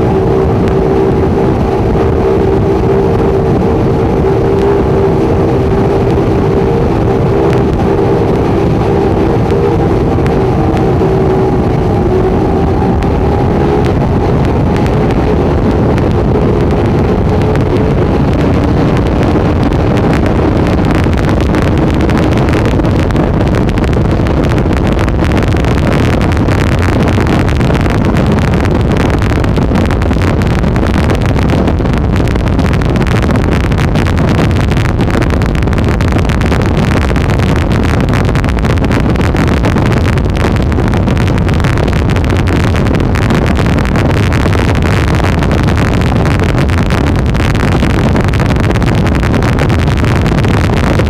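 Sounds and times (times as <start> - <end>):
outboard motors running: 0.0 - 49.8
wind buffeting microphone: 0.0 - 51.0.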